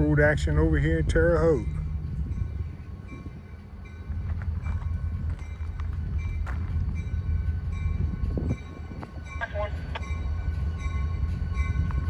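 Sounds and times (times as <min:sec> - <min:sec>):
locomotive engine rumble: 0:00.0 - 0:12.0.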